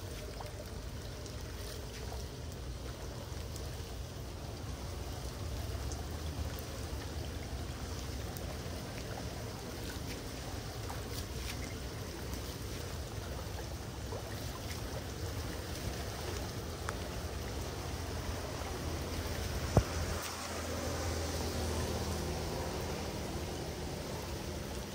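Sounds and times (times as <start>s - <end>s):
small water splashes: 0.0s - 24.9s
water rushing into storm drain: 0.0s - 24.9s.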